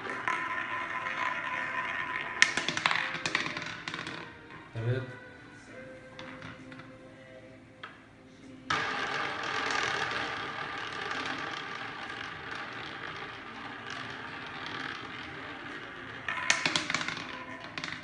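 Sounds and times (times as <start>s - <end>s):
ball clattering into pocket: 0.0s - 8.0s, 8.7s - 18.0s
roulette ball rolling: 0.0s - 18.0s.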